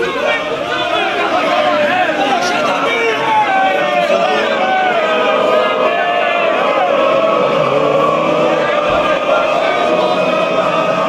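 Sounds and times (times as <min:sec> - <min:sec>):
crowd of men chanting: 0:00.0 - 0:11.0.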